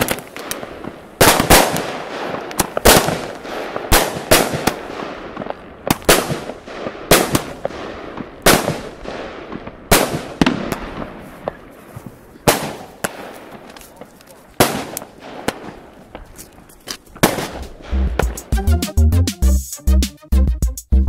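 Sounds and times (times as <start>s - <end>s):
fireworks bangs: 0.0s - 18.6s
fireworks crackling: 0.0s - 18.9s.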